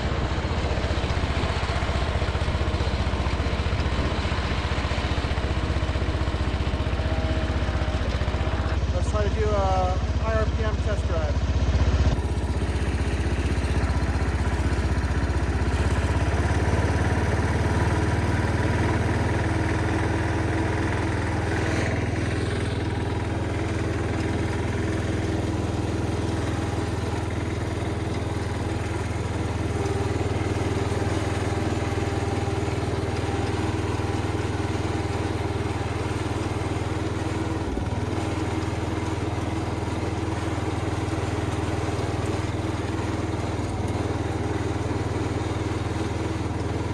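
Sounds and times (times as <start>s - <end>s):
small engine running at high throttle: 0.0s - 46.9s.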